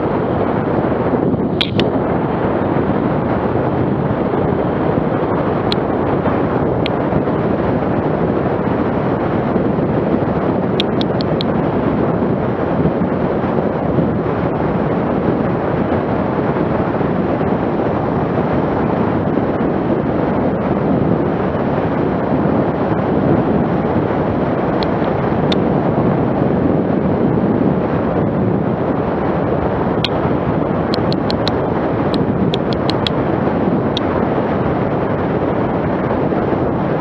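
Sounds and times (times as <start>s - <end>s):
wind on microphone: 0.0s - 37.0s.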